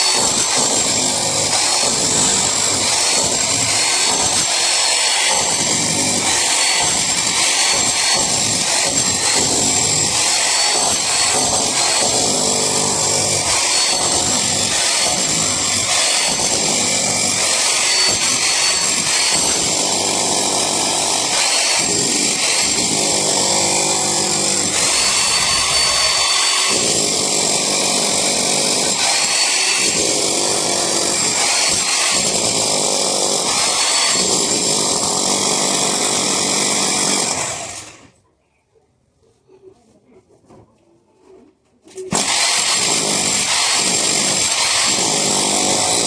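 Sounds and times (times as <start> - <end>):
handheld power tool running: 0.0 - 38.0, 42.1 - 46.0.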